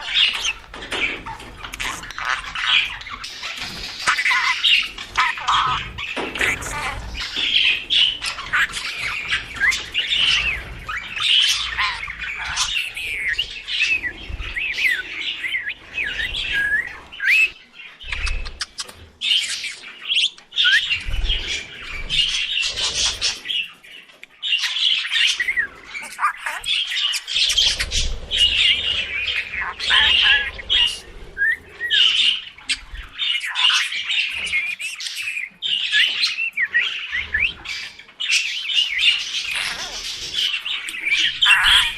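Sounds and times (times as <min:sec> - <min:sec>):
budgerigars chirping and warbling: 0:00.0 - 0:41.9.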